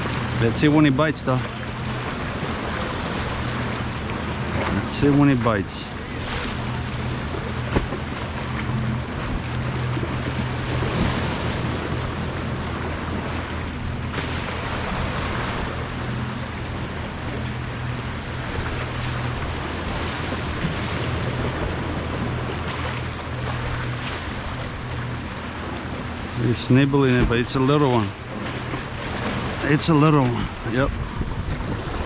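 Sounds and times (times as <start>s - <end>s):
low motor hum: 0.0s - 32.0s
sea surf: 0.0s - 32.0s
wind: 0.0s - 32.0s.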